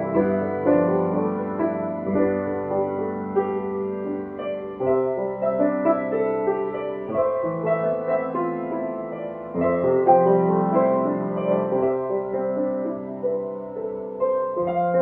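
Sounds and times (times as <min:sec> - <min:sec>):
slow solo piano piece: 0:00.0 - 0:15.0.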